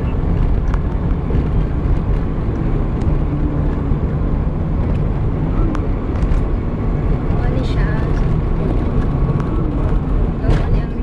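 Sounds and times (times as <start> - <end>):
moving vehicle rumble: 0.0 - 11.0
road and wind noise: 0.0 - 11.0
wind buffeting microphone: 0.0 - 11.0.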